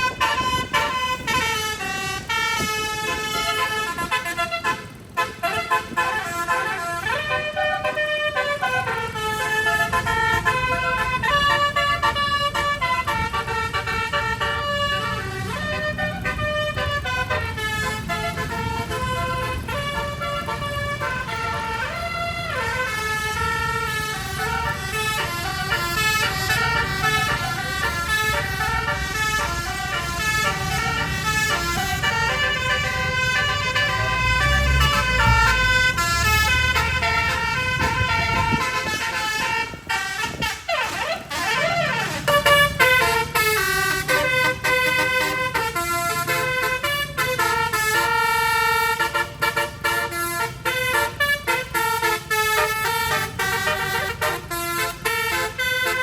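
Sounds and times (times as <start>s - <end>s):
low engine rumble: 0.0s - 56.0s
multi-trumpet air horn melody: 0.0s - 56.0s.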